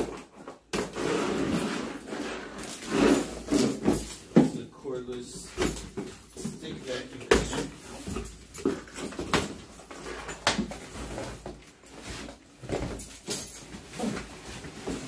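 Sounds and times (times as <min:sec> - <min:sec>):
cardboard rustling and scraping: 0:00.0 - 0:15.0.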